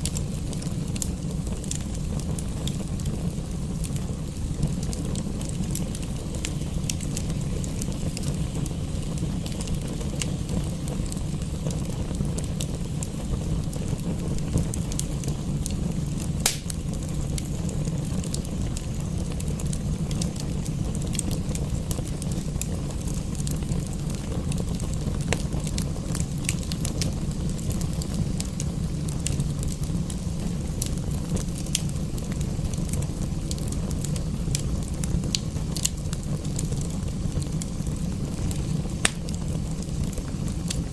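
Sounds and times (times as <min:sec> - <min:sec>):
fire low rumble: 0:00.0 - 0:40.9
wood fire crackling: 0:00.0 - 0:40.9.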